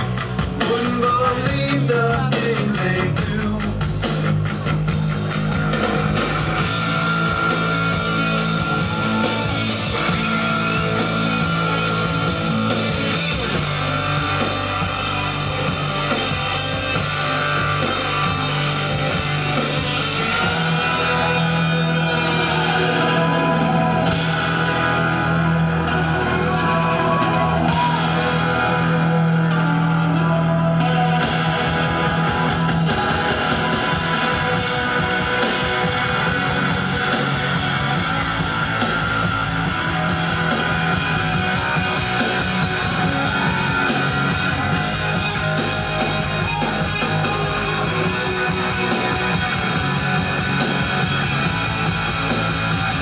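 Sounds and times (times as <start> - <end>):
bass guitar: 0.0 - 53.0
distorted electric guitar: 0.0 - 53.0
drum kit: 0.0 - 53.0.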